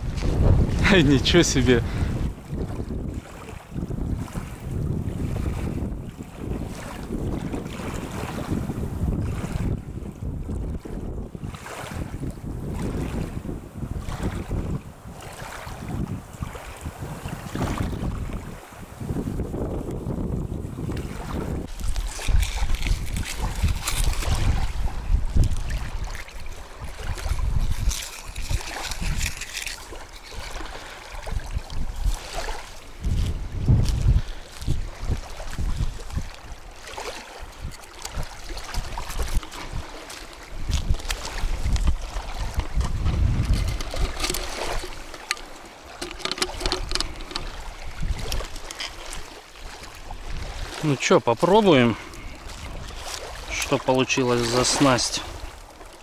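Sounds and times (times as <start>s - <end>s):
wind buffeting microphone: 0.0s - 54.0s
river water lapping and trickling: 0.0s - 56.0s.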